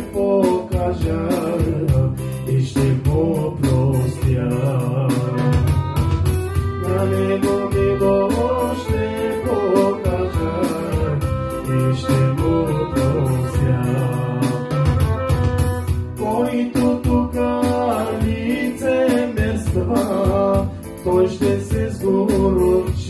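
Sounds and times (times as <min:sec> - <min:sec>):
electronic keyboard gospel accompaniment: 0:00.0 - 0:23.0.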